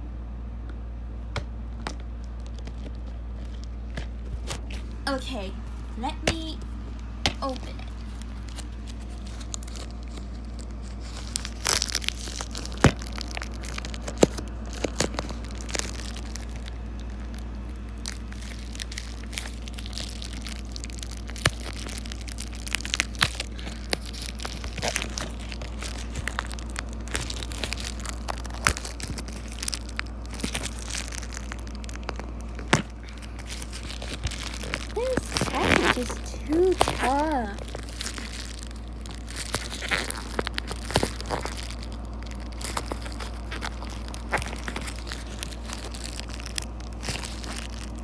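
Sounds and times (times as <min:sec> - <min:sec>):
plastic mailer crinkling: 0:01.8 - 0:48.0.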